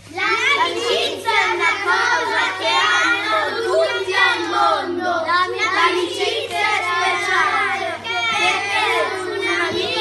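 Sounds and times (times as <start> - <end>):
children chanting together: 0.0 - 10.0.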